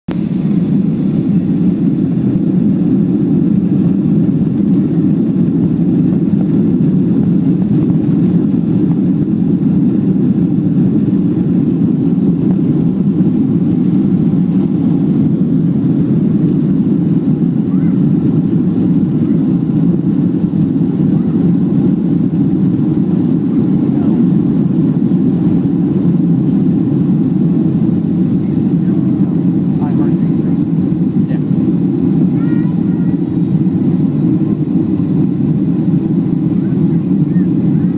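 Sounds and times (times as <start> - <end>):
jet engine drone in cabin: 0.1 - 37.9.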